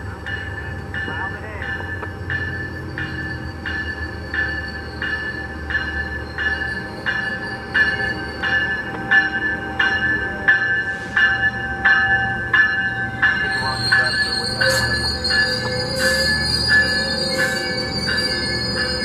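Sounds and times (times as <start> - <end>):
low rumble of train: 0.0 - 19.0
railroad crossing bell ringing: 0.0 - 19.0.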